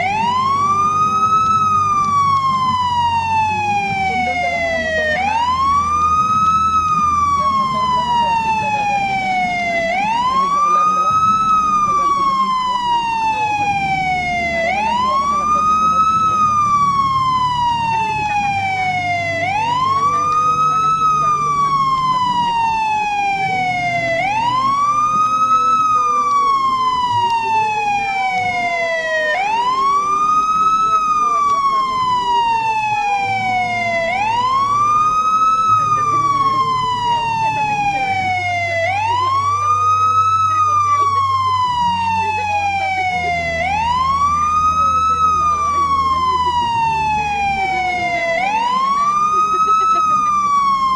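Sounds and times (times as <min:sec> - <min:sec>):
low steady hum: 0:00.0 - 0:50.9
police siren wailing: 0:00.0 - 0:50.9.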